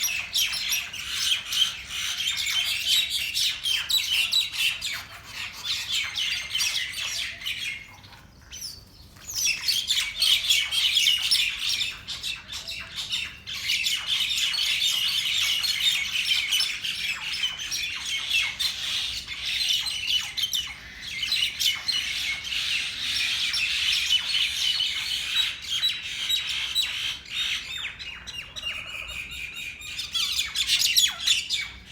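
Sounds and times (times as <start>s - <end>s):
birds squawking harshly: 0.0s - 31.9s.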